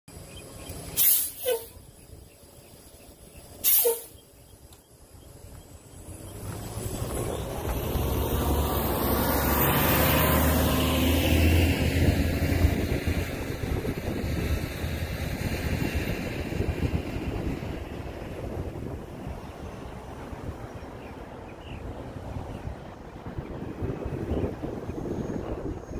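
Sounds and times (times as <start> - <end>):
bus driving past: 0.1 - 25.9.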